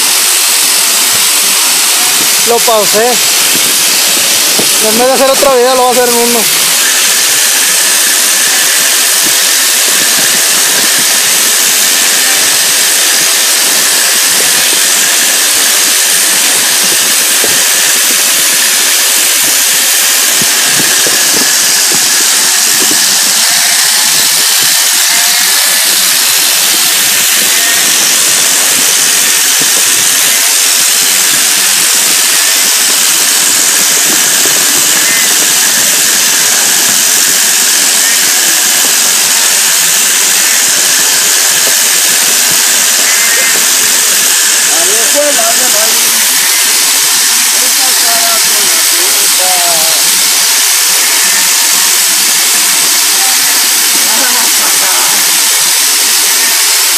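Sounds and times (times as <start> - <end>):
sheep shearing handpiece running: 0.0 - 56.9.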